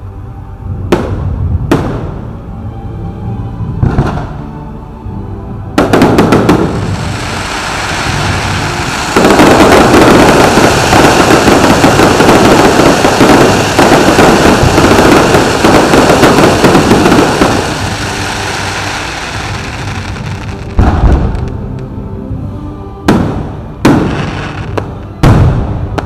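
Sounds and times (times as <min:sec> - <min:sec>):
fireworks bangs and crackling: 0:00.8 - 0:02.4, 0:03.8 - 0:04.4, 0:05.8 - 0:21.8, 0:23.1 - 0:26.0.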